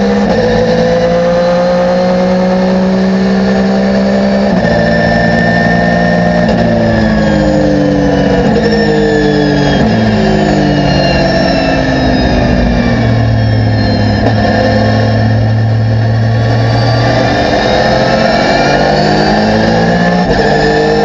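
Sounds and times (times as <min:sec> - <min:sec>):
race car engine from cockpit: 0:00.0 - 0:21.0.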